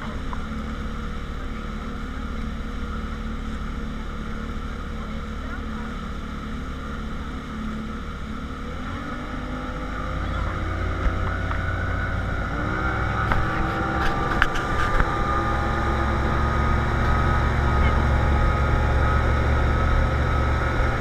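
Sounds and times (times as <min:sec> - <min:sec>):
outboard motor running: 0:00.0 - 0:21.0
rush of boat wake: 0:00.0 - 0:21.0.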